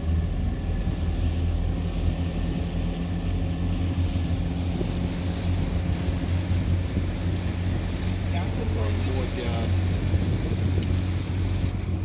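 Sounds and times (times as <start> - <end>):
motorboat engine droning: 0.0 - 12.0
wind on microphone: 0.0 - 12.0.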